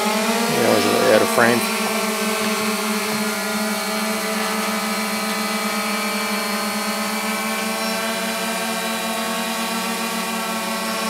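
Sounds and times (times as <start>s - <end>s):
drone propellers humming: 0.0s - 11.0s.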